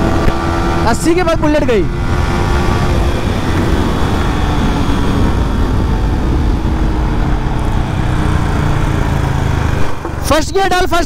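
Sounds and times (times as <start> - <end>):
heavy wind rush on microphone: 0.0 - 10.4
motorcycle engine running: 0.0 - 10.7.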